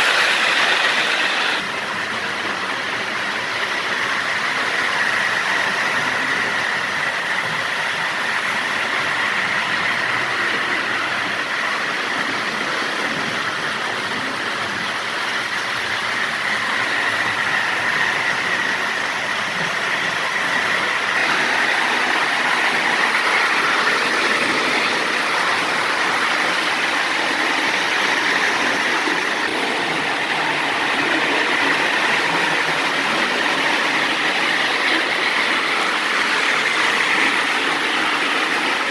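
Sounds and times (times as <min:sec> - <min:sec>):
toy train motor whine: 0:00.0 - 0:38.9
toy train wheels on rails: 0:00.0 - 0:38.9.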